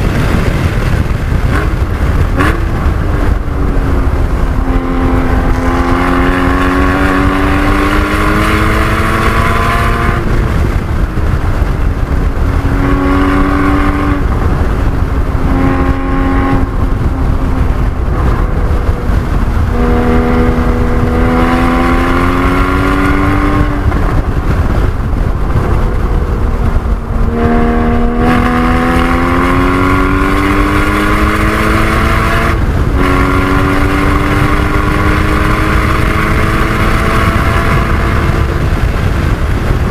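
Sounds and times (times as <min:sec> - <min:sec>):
road noise: 0:00.0 - 0:39.9
sports car engine revving: 0:00.0 - 0:39.9
wind noise: 0:00.0 - 0:39.9.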